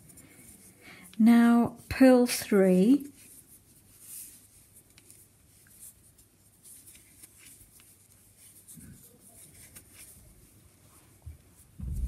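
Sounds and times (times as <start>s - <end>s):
yarn rustling: 0.0s - 12.0s.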